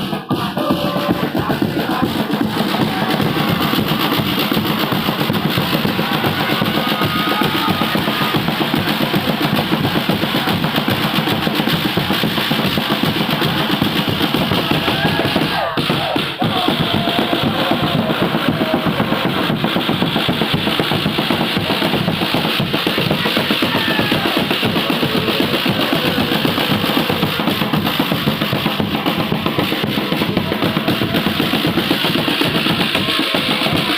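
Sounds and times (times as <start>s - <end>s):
crowd chanting: 0.0s - 33.9s
drums beating fast rhythm: 0.0s - 33.9s.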